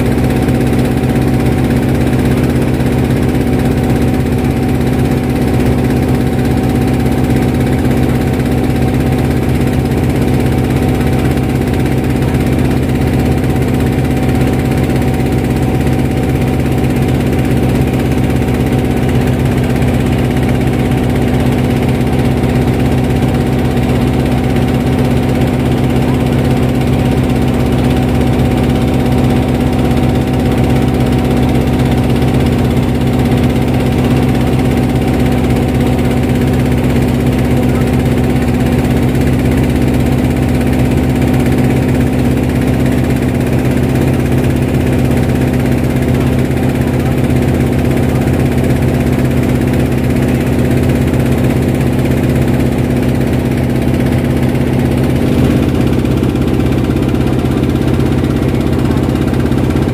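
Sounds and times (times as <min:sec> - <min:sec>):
boat engine running steadily: 0:00.0 - 0:59.9.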